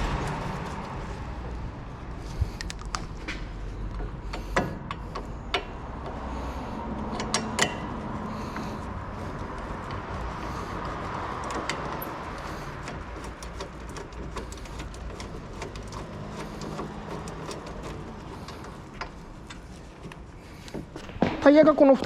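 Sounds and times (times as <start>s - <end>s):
light clicks and knocks: 2.2s - 22.0s.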